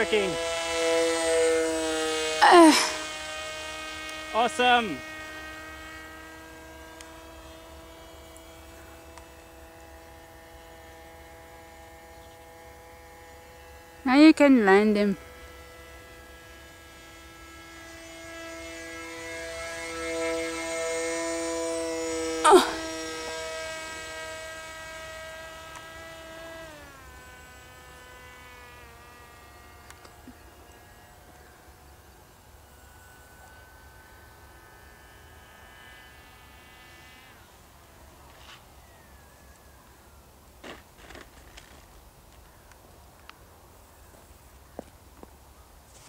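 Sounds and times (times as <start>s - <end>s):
model aircraft propellers humming: 0.0s - 46.0s.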